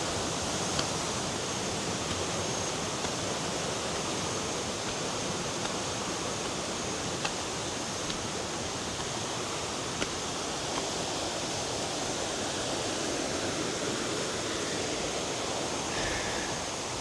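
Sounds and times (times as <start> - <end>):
waterfall rushing: 2.9 - 17.0.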